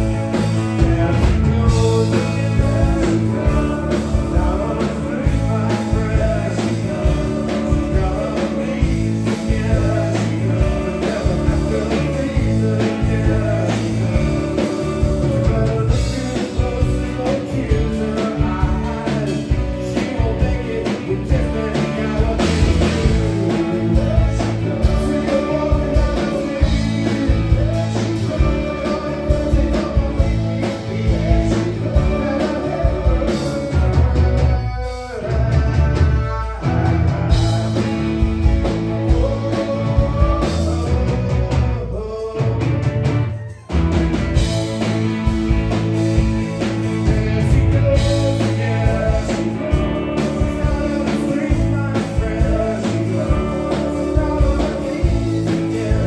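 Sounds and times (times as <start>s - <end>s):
man singing lead: 0.0s - 43.7s, 44.4s - 56.0s
rock band playing: 0.0s - 56.0s.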